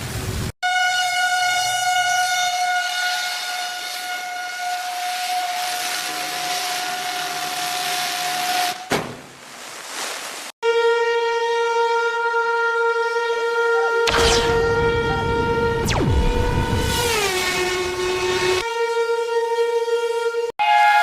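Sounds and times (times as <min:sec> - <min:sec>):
warning siren steady tone: 0:00.6 - 0:08.6, 0:10.6 - 0:21.0.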